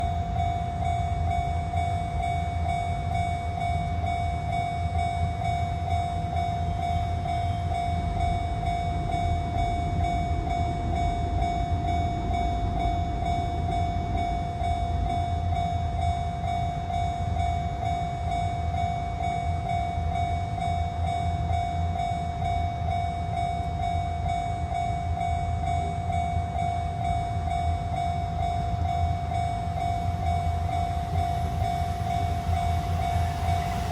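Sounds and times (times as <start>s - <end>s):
level crossing warning bell: 0.0s - 33.9s
train passing rumble: 0.0s - 33.9s.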